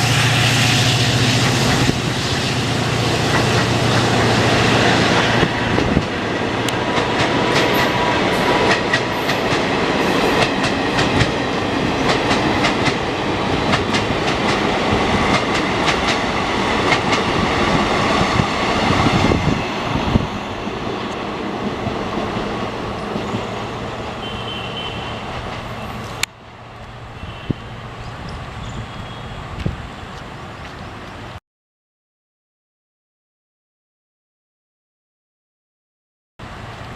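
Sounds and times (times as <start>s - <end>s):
train coaches rolling past: 0.0s - 31.4s, 36.4s - 36.9s.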